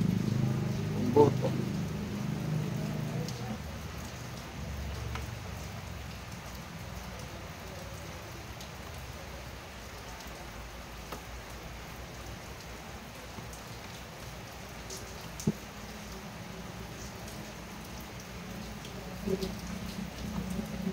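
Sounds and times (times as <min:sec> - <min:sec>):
rain hissing: 0:00.0 - 0:20.9.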